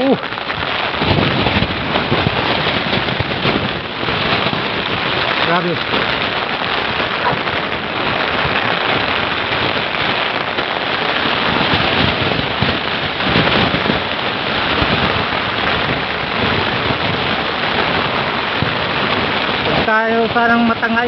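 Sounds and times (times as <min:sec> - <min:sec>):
heavy rain on plastic sheet: 0:00.0 - 0:21.0
wind gusting thumps: 0:00.0 - 0:21.0.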